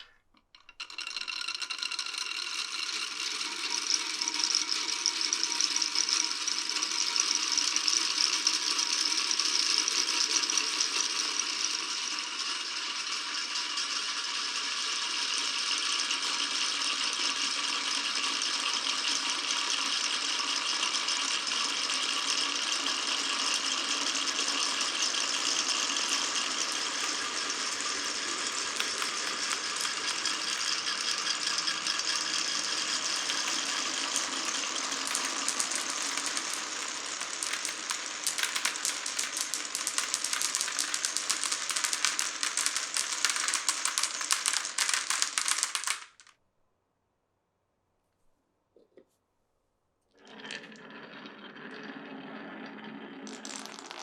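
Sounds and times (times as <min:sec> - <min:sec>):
marbles rattling along a track: 0:00.0 - 0:46.3, 0:50.2 - 0:54.0.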